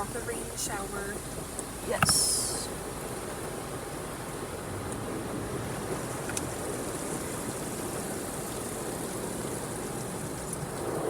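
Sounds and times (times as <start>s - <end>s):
water falling on car roof: 0.0s - 11.0s.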